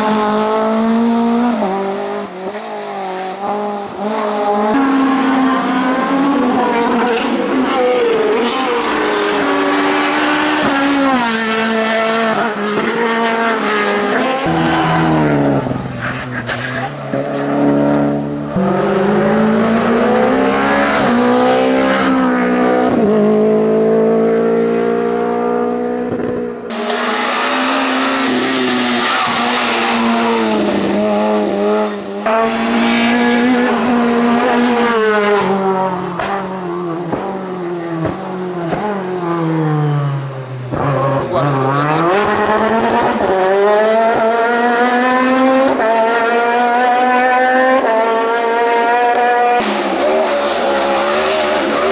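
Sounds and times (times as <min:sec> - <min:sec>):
race car engines at full throttle: 0:00.0 - 0:51.9.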